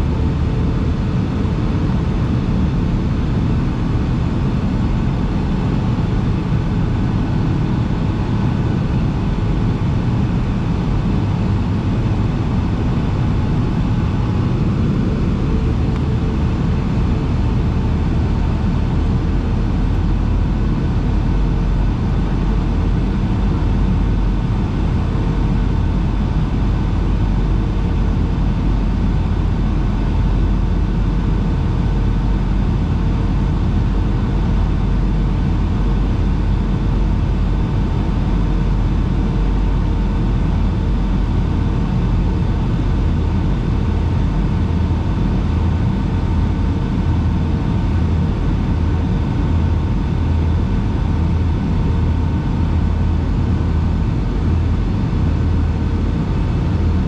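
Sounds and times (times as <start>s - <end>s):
deep rumble of engines and airflow: 0.0s - 57.0s.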